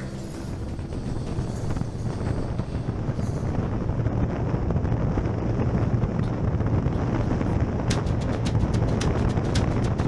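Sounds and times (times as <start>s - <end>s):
motorcycle engine and road noise: 0.0s - 10.0s
wind buffeting microphone: 0.0s - 10.0s.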